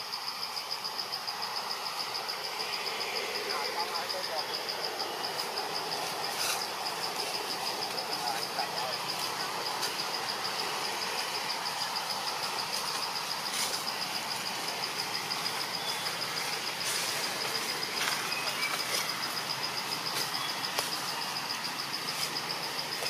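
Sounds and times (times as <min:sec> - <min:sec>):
insects trilling: 0:00.0 - 0:23.0
outdoor hiss: 0:00.0 - 0:23.0.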